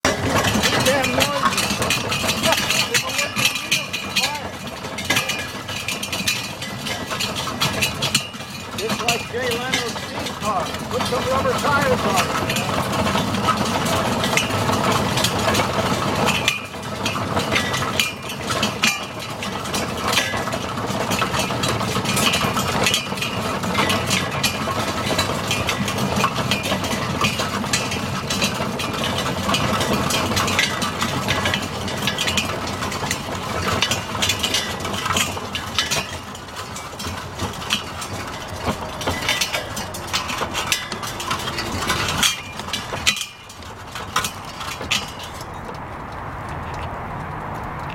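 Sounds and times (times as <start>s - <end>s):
steam traction engine clattering: 0.0s - 47.9s.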